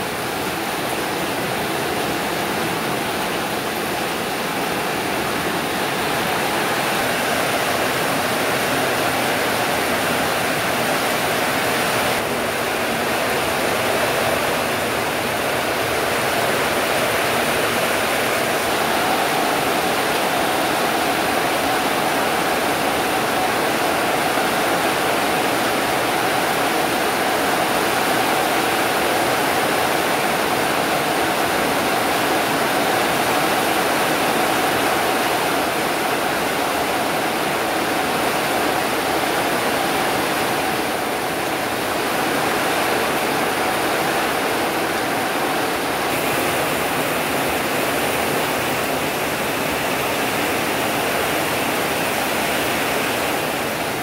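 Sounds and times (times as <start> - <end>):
heavy rain on metal roofs: 0.0 - 54.0.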